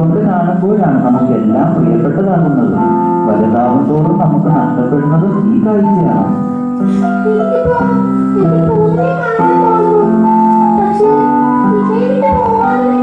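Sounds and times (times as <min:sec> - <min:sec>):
keyboard music: 0:00.0 - 0:13.0.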